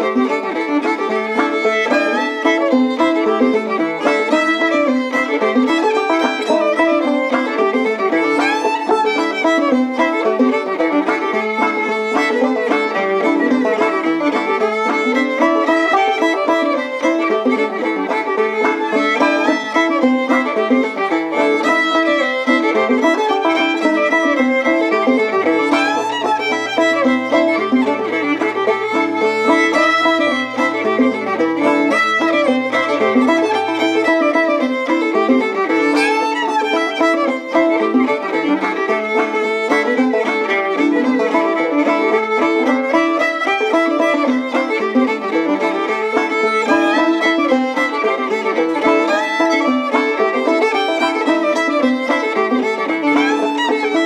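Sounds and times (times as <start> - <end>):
lively fiddle music: 0.0 - 54.0.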